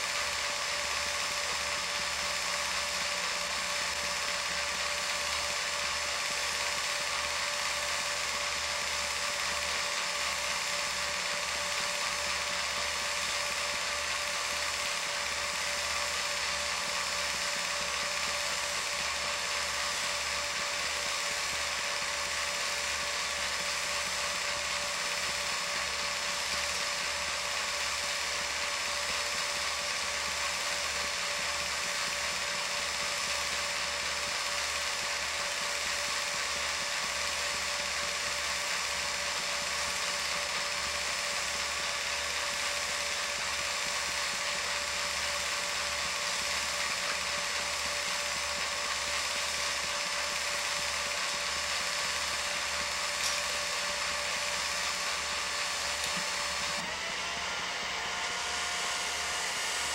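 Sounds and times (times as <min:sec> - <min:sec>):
projector motor whir: 0:00.0 - 0:59.9.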